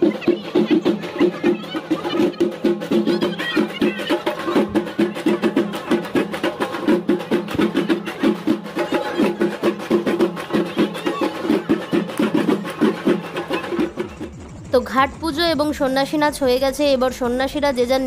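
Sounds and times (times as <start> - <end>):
drums in fast rhythm: 0.0 - 18.0.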